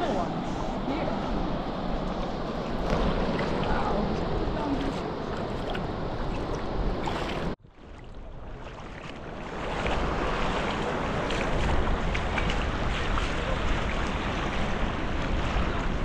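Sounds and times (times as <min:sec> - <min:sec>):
small waves washing on sand: 0:00.0 - 0:16.0
wind buffeting microphone: 0:00.0 - 0:16.0.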